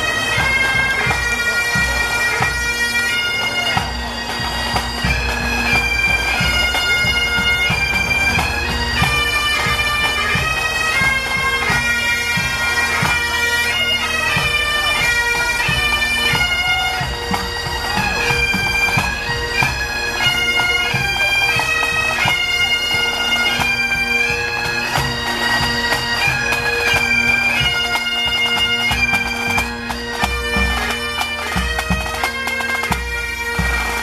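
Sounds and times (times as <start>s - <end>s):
bagpipes playing a march: 0.0s - 34.0s.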